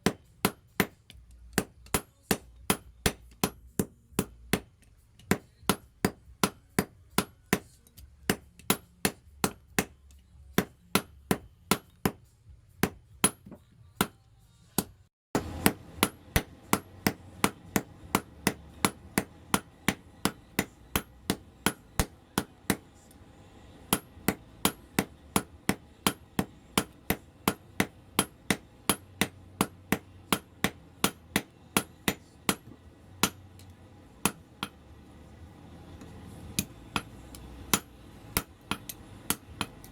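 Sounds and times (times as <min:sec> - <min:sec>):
hammer striking hot steel on anvil: 0:00.0 - 0:10.0, 0:10.6 - 0:12.2, 0:12.8 - 0:14.2, 0:14.8 - 0:39.9.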